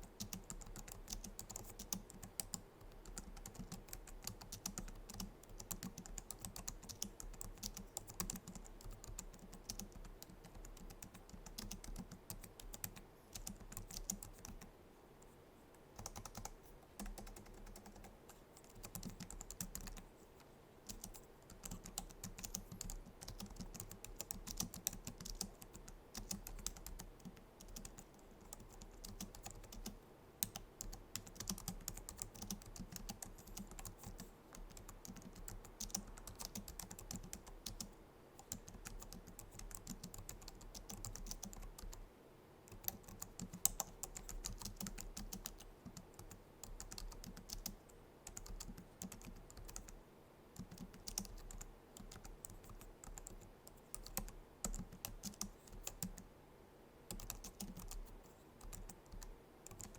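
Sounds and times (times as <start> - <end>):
keyboard typing clicks: 0.2 - 14.7, 16.0 - 20.0, 20.9 - 42.0, 42.7 - 50.0, 50.6 - 56.2, 57.1 - 59.9.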